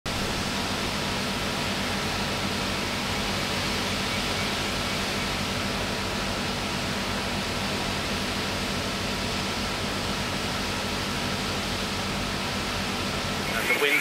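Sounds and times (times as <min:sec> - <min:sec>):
heavy rain: 0:00.1 - 0:14.0.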